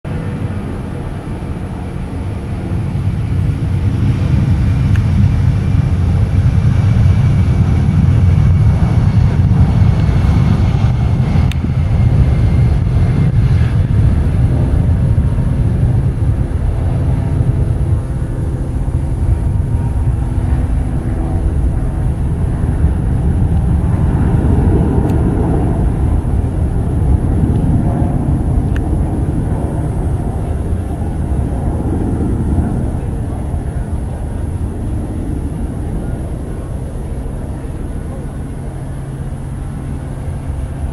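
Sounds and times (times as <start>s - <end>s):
jet engines at takeoff: 0.0s - 40.9s.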